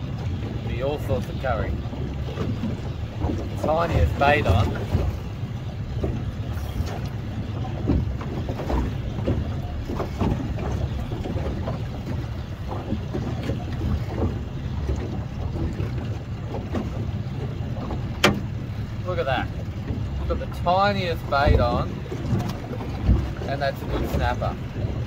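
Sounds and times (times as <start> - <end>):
water slapping against hull: 0.0 - 25.0
wind buffeting microphone: 0.0 - 25.0.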